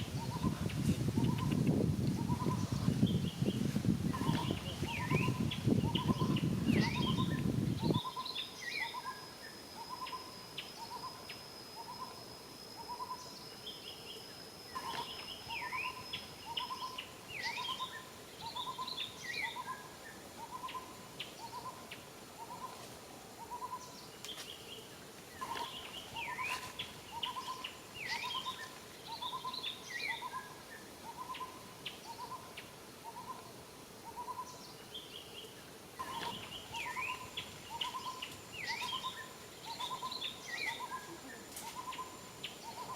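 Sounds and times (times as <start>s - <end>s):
birds chirping: 0.0s - 12.2s, 12.8s - 22.8s, 23.4s - 42.9s.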